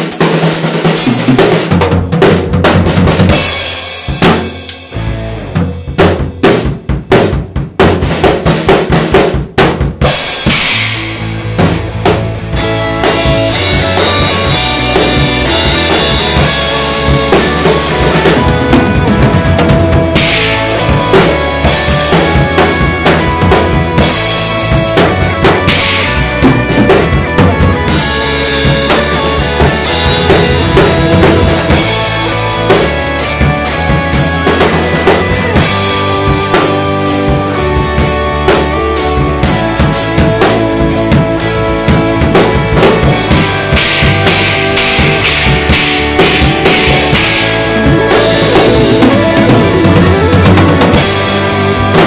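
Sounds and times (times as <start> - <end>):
backing track music: 0.0 - 52.0
drum kit played hard: 0.0 - 52.0.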